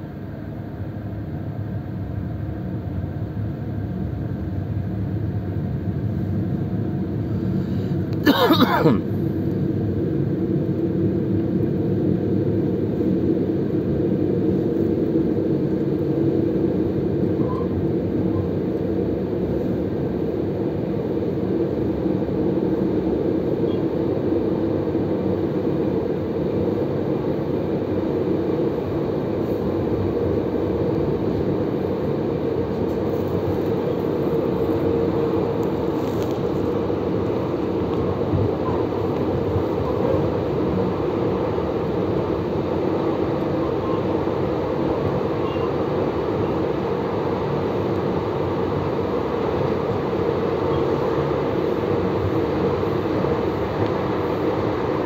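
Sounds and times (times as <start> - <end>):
train running noise from inside: 0.0 - 55.0.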